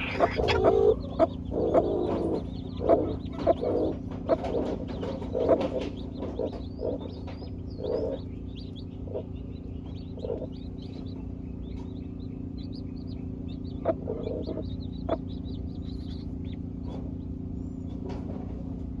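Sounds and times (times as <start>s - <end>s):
hen clucking softly: 0.0s - 17.2s
baby chicks peeping: 0.0s - 19.0s
steady low hum: 0.0s - 19.0s.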